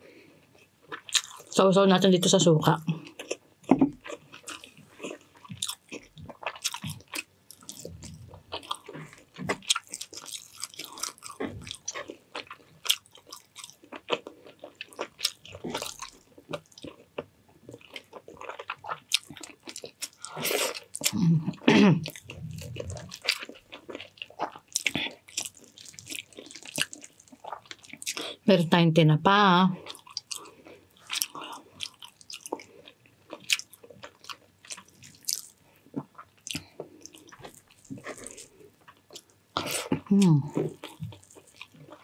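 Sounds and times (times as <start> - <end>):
person chewing food: 0.2 - 1.6, 2.9 - 28.4, 29.8 - 42.0.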